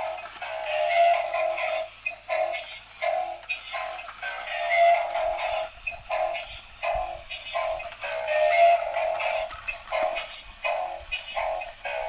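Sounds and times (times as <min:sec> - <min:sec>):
electronic dance tune from toy: 0:00.0 - 0:12.0.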